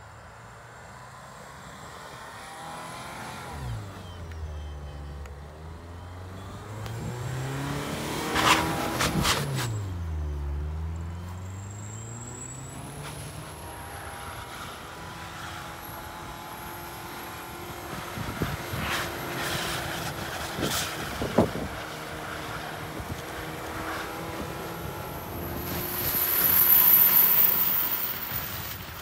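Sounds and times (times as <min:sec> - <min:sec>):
wheelspin in snow: 0:00.0 - 0:29.0
car engine revving: 0:00.8 - 0:28.8.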